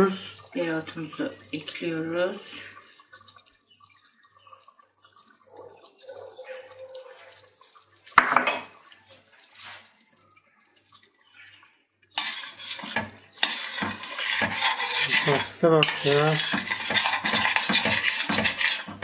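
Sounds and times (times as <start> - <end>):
stew simmering and bubbling: 0.0 - 19.0.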